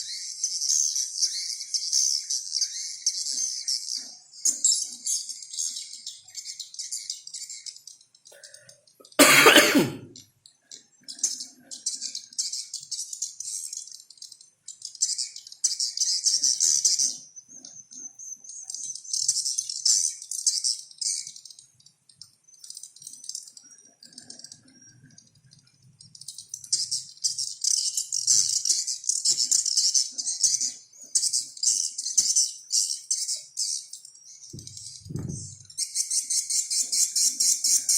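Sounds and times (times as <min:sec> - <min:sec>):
birds chattering and twittering: 0:00.0 - 0:37.9.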